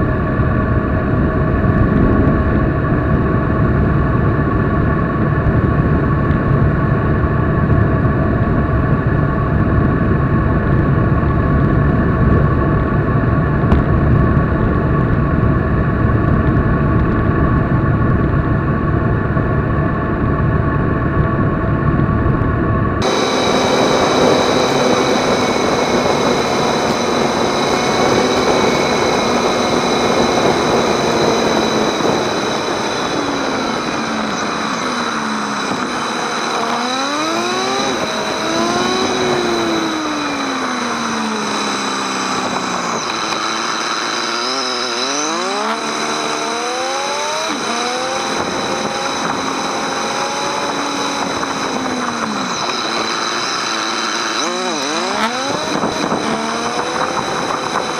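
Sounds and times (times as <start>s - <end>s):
motorcycle engine: 0.0s - 57.9s
wind and road noise: 0.0s - 57.9s.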